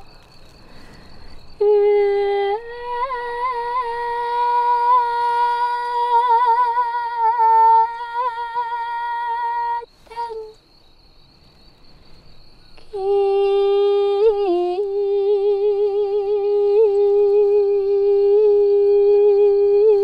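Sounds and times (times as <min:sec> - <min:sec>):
woman singing without words: 0:01.5 - 0:10.6, 0:12.8 - 0:20.0.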